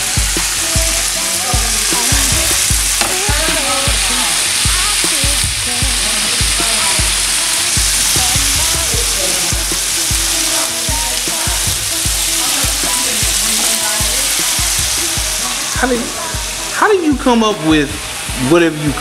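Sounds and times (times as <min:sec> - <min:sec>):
background music with slow beat: 0:00.0 - 0:19.0
food sizzling in a pan: 0:00.0 - 0:19.0.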